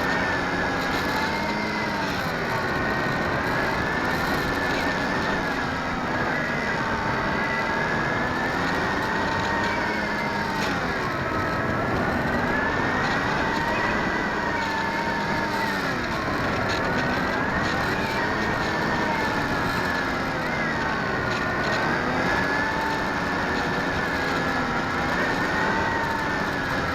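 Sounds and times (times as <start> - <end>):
model airplane motor whining: 0.0 - 26.9.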